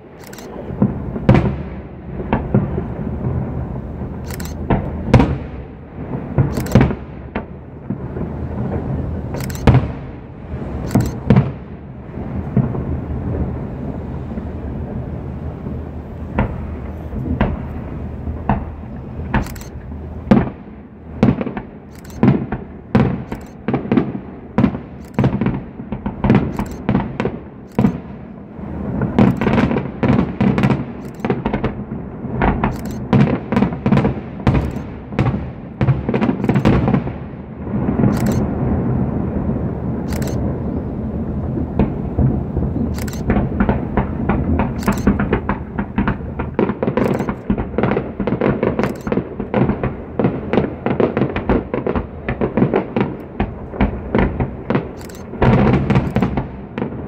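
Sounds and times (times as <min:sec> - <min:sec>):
continuous low rumble: 0:00.0 - 0:57.0
fireworks bangs: 0:00.0 - 0:57.0.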